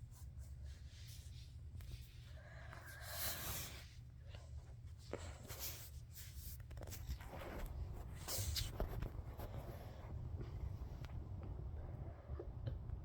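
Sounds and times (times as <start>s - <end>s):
soft scratchy rubbing and rustling: 0.0s - 11.4s
low steady hum: 0.0s - 13.0s.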